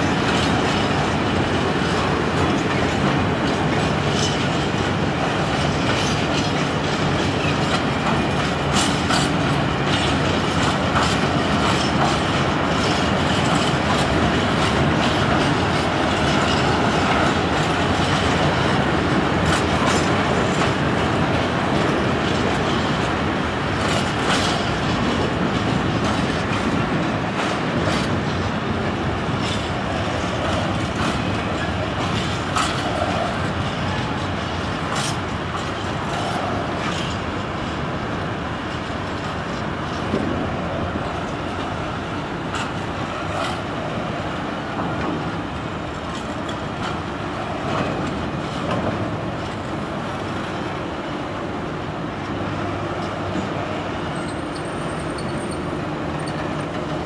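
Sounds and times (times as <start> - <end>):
clanks over rail joints: 0.0 - 50.9, 52.2 - 57.0
train wheels rumbling on rail: 0.0 - 57.0.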